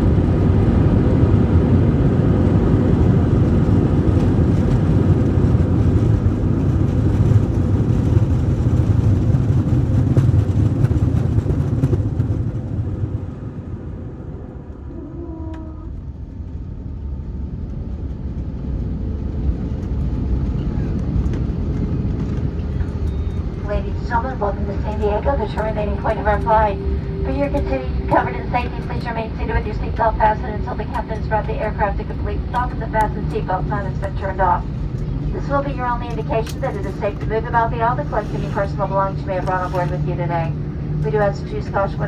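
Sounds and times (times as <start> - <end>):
aircraft engines rumbling: 0.0 - 42.0.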